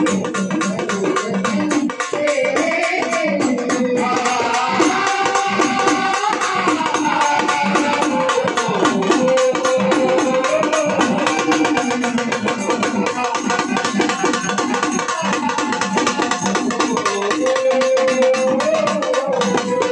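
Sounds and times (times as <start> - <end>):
fast frame drum beat: 0.0 - 19.9.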